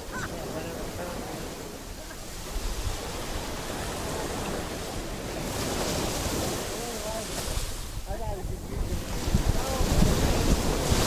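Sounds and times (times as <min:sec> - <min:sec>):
sea waves washing on shore: 0:00.0 - 0:11.0
wind rumbling on microphone: 0:00.0 - 0:11.0.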